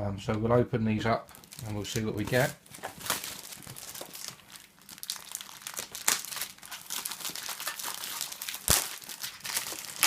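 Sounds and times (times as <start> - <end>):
packaging tearing and crinkling: 1.3 - 10.0.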